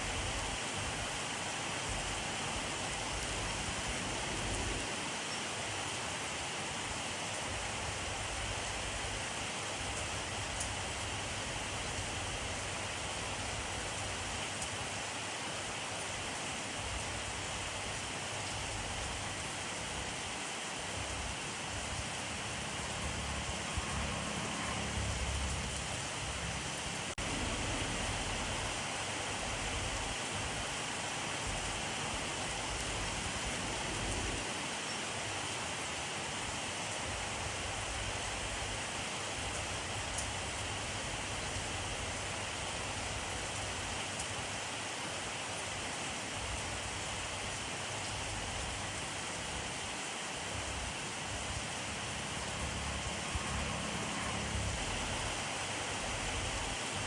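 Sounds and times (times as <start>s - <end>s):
rain on surfaces: 0.0s - 57.0s.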